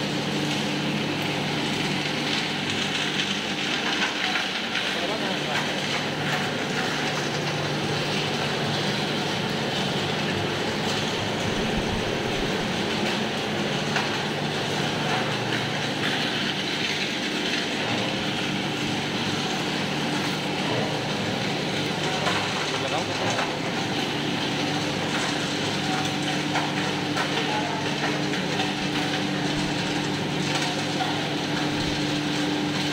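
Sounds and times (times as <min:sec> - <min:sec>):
fan blowing air: 0:00.0 - 0:32.9
low motor hum: 0:05.7 - 0:32.9.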